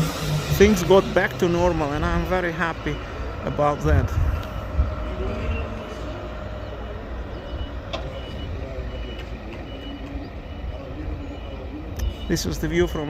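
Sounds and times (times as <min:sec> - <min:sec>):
low rumble: 0:00.0 - 0:11.4
reversing alarm beeping: 0:00.0 - 0:13.0.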